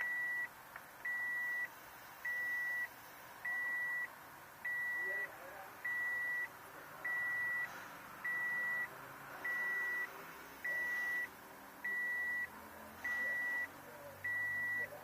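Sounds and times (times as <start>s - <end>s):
electronic warning beep: 0.0s - 0.5s, 1.1s - 6.5s, 7.1s - 15.0s.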